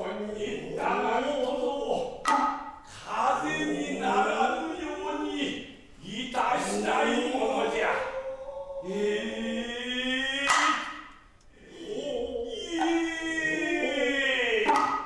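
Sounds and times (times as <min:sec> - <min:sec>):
voices chanting drawn-out syllables: 0:00.0 - 0:15.0.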